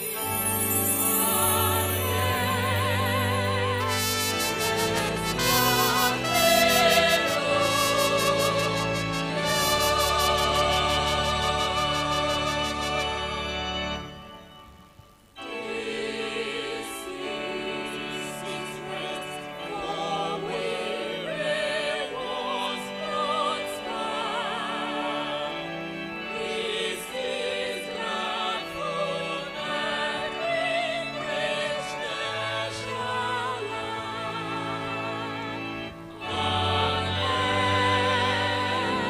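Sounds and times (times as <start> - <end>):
choir and congregation singing: 0.0 - 14.2, 15.4 - 39.0
steady held chords: 0.0 - 39.0.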